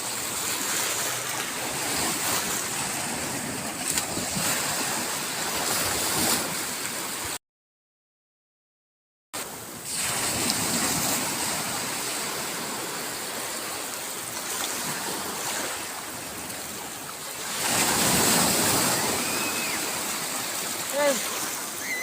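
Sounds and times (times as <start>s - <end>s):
sea waves washing onto shore: 0.0s - 7.4s, 9.4s - 22.0s.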